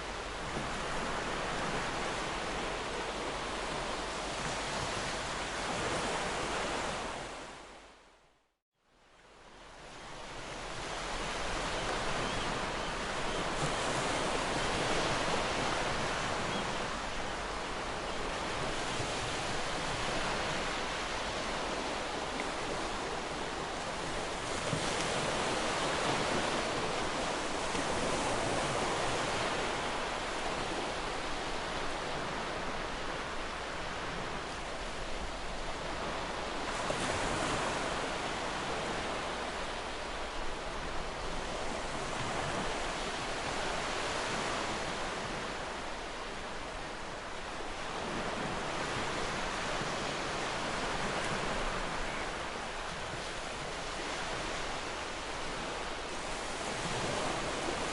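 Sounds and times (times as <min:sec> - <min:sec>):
ocean waves breaking: 0:10.3 - 0:57.9.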